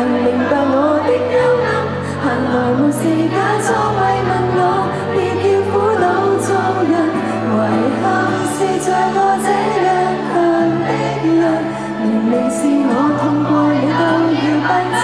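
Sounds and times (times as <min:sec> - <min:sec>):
pop backing music: 0:00.0 - 0:15.0
woman singing into microphone: 0:00.0 - 0:15.0.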